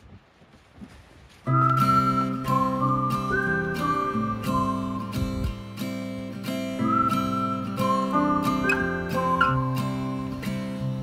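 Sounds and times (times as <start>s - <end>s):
acoustic guitar strumming chords: 1.5s - 11.0s.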